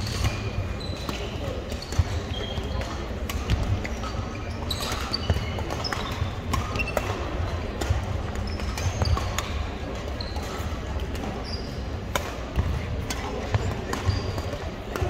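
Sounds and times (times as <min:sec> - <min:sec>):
sneakers squeaking on hardwood floor: 0:00.0 - 0:07.4, 0:08.3 - 0:12.0, 0:13.5 - 0:14.6
murmur of voices: 0:00.0 - 0:15.0
rackets hitting shuttlecocks: 0:00.1 - 0:15.0.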